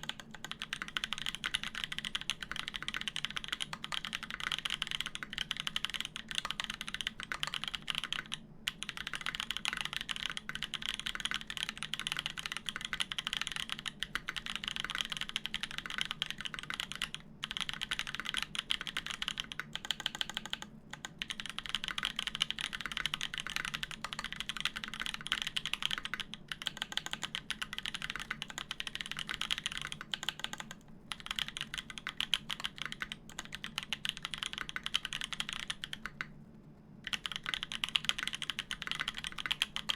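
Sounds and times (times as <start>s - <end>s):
mechanical keyboard typing: 0.0s - 36.4s, 37.0s - 39.9s.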